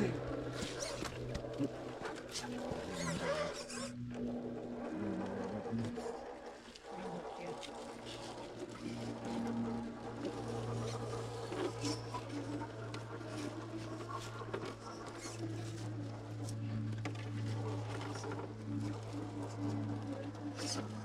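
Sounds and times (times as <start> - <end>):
electric motor and gears whirring: 0.0 - 21.0.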